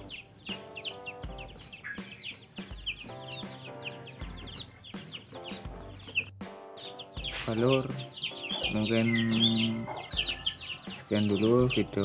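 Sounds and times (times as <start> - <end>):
chickens clucking: 0.0 - 12.0
music with slow steady beat: 0.0 - 12.0.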